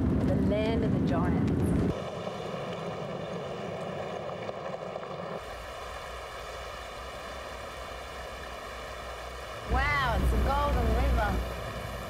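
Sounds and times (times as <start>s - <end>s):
river water rushing: 1.9s - 12.0s.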